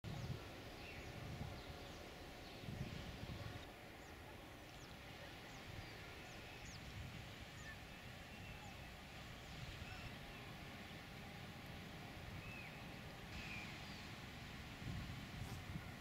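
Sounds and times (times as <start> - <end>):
wind rumble on microphone: 0.0 - 16.0
small birds chirping: 0.1 - 11.4, 12.2 - 14.4.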